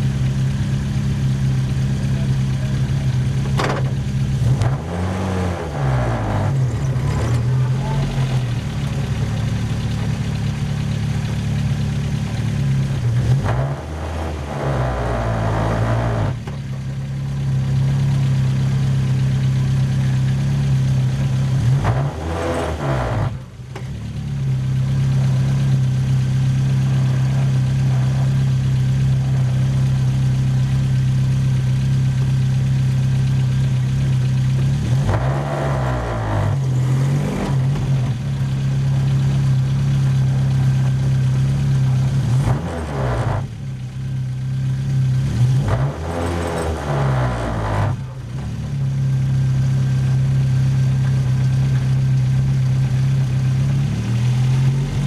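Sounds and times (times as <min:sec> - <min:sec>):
race car engine at low revs: 0:00.0 - 0:55.0.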